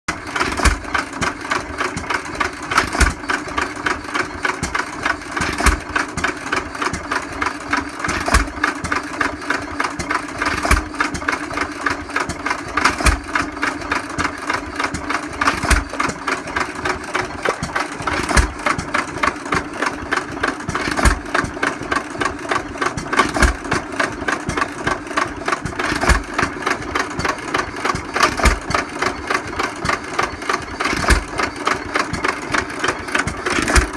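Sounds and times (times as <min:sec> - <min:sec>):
stationary engines idling: 0:00.1 - 0:33.9.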